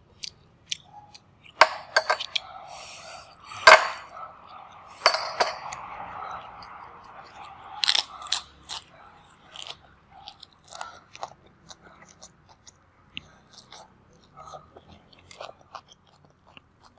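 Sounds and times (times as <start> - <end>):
person crunching raw vegetables: 0.0 - 3.8, 4.4 - 16.9.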